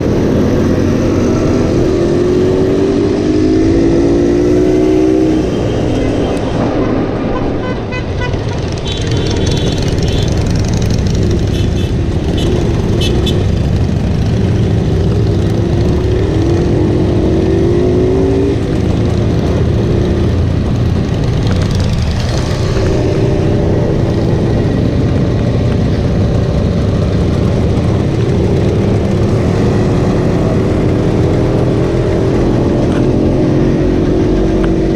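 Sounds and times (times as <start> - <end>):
motorcycle engines rumbling: 0.0 - 34.9.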